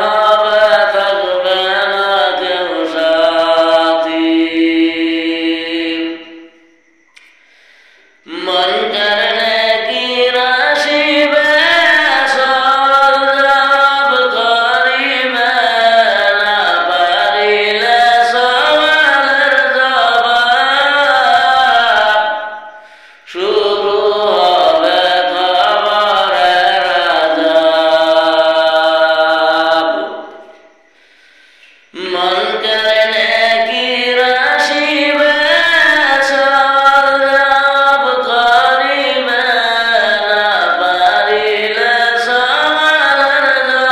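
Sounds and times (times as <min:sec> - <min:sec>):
person singing devotional song: 0:00.0 - 0:06.6, 0:08.2 - 0:31.2, 0:31.8 - 0:43.9.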